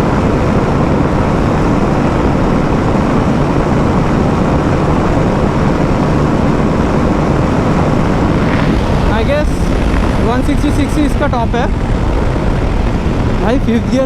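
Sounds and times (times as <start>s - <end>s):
motorcycle engine at full throttle: 0.0s - 14.0s
wind rush over microphone: 0.0s - 14.0s.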